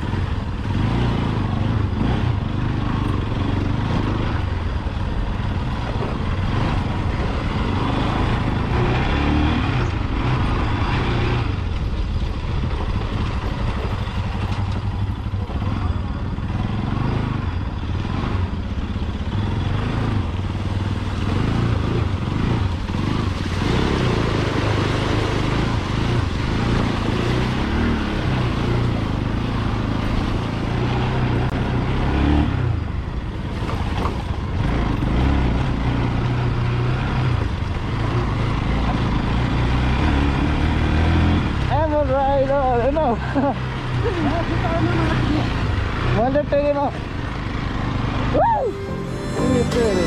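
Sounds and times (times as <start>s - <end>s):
motorcycle engine revving: 0.0s - 50.0s
rush of ride noise: 0.0s - 50.0s.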